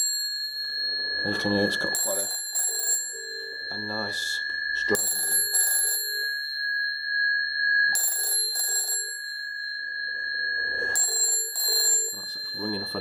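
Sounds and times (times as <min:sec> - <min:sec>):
telephone bell ringing: 0:00.0 - 0:13.0.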